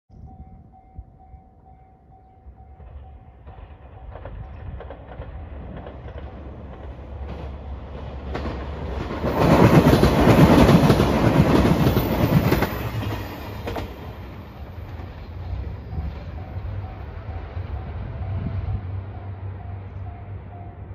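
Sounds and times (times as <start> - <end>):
diesel train passing: 0.2 - 20.9.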